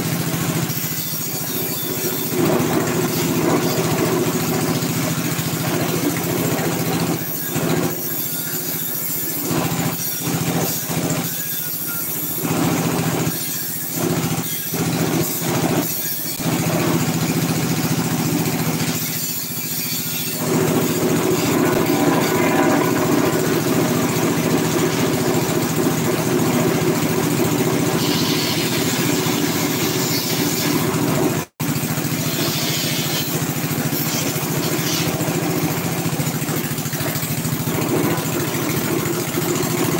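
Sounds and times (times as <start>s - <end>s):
road roller engine running: 0.0s - 39.9s.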